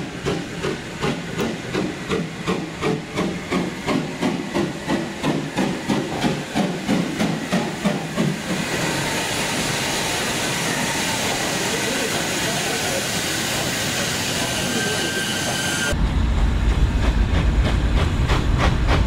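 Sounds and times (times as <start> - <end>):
steam hissing: 0.0 - 16.0
steam locomotive exhaust beats: 0.0 - 19.0.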